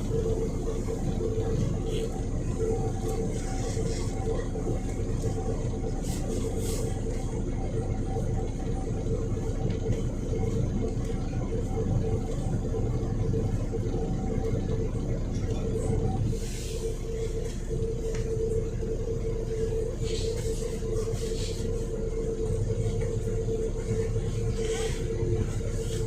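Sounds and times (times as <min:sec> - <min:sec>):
bus engine rumble: 0:00.0 - 0:26.0
steady whine: 0:00.0 - 0:26.0.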